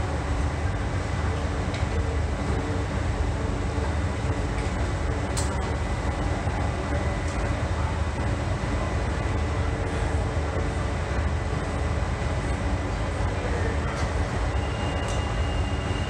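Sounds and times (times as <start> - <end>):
train hum and rumble: 0.0 - 16.0.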